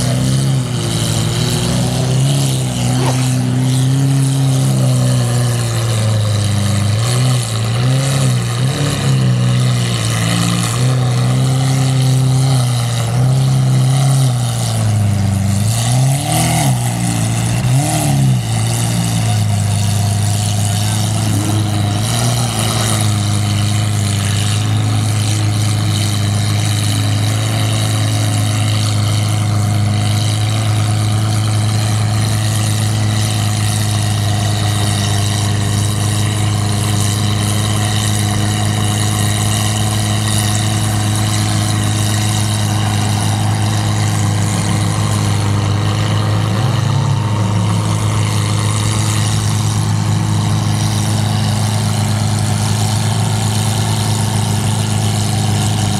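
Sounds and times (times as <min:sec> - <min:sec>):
sports car engine idling: 0:00.0 - 0:55.9.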